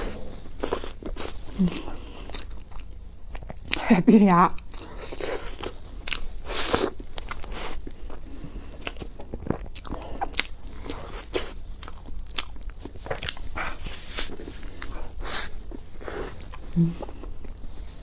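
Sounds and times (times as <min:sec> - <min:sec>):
chewing bread: 0:00.0 - 0:03.8, 0:04.5 - 0:18.0.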